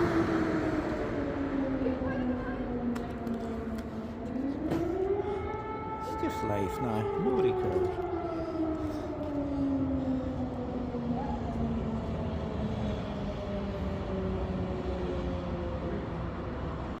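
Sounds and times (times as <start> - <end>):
air raid siren winding down: 0.0 - 17.0
low city rumble: 0.0 - 17.0.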